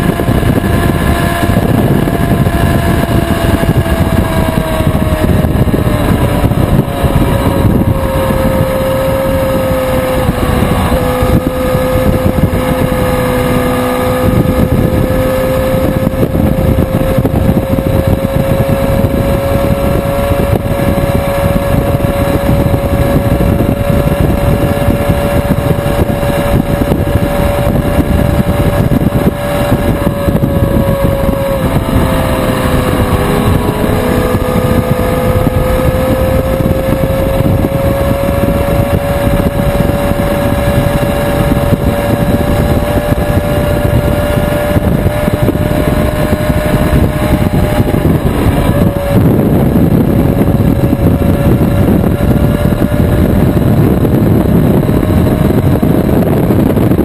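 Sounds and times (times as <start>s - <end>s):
motorcycle engine running: 0.0s - 57.0s
wind rush over camera: 0.0s - 57.0s.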